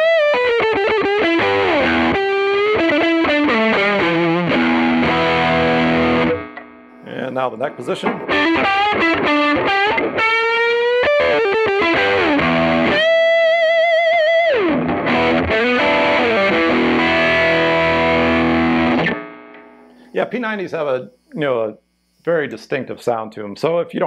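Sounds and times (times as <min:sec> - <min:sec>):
overdriven electric guitar lead: 0:00.0 - 0:21.3.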